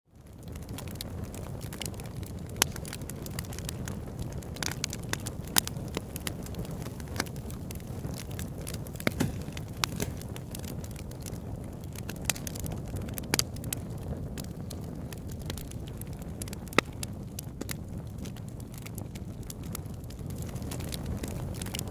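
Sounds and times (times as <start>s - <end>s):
wood fire crackling and popping: 0.2s - 21.9s.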